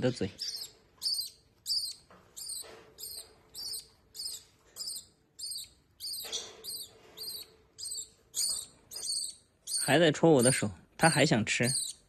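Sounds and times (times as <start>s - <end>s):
bird chick begging chirps: 0.2s - 10.6s, 11.6s - 12.0s.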